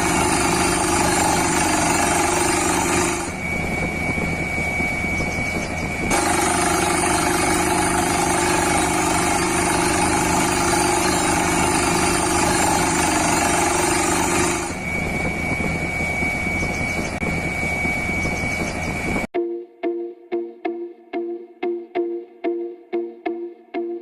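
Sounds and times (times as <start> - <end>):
small electric motors whining: 0.0 - 19.3.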